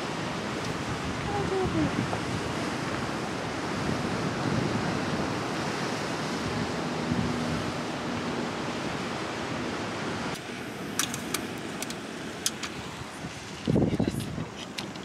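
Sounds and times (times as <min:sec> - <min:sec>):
ocean surf on rocky shore: 0:00.0 - 0:15.0
wind buffeting microphone: 0:00.0 - 0:15.0.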